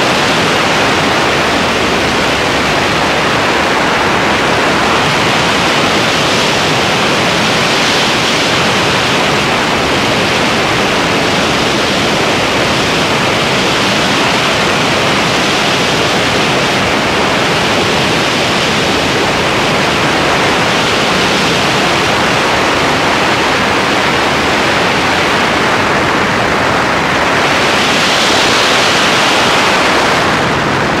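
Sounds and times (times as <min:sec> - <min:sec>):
wind rush on microphone: 0:00.0 - 0:31.0.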